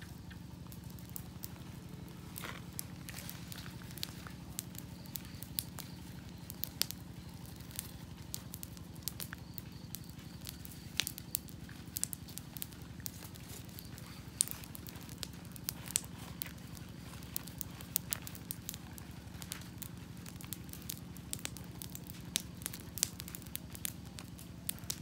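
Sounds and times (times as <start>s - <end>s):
campfire crackling: 0.0s - 25.0s
low background noise: 0.0s - 25.0s.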